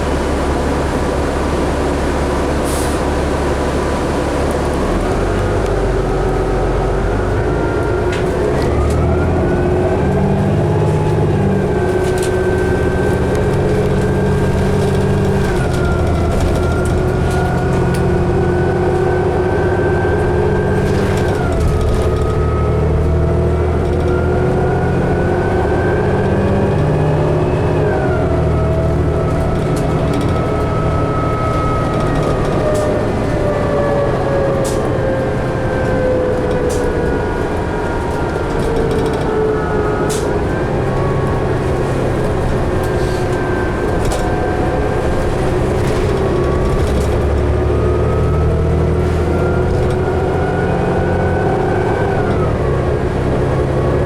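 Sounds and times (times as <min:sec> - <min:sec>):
bus engine rumble: 0:00.0 - 0:54.0
drivetrain whine: 0:00.0 - 0:54.0.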